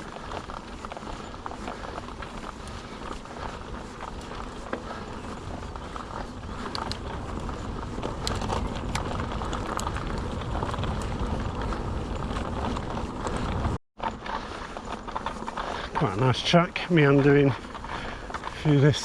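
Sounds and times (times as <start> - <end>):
bike tyres on rough track: 0.0 - 19.0
rattling clicks of bike and stones: 0.0 - 19.0.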